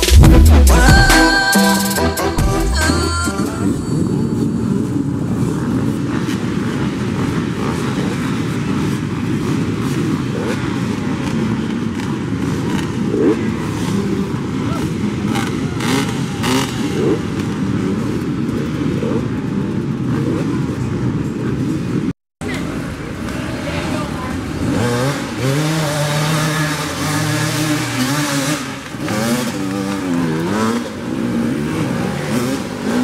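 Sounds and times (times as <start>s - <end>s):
dirt bike engines droning and revving: 0.0s - 33.0s.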